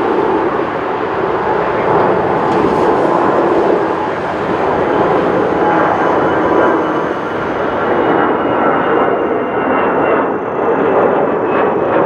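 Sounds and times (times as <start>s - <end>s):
faint engine whine: 0.0s - 12.0s
jet engines rushing: 0.0s - 12.0s.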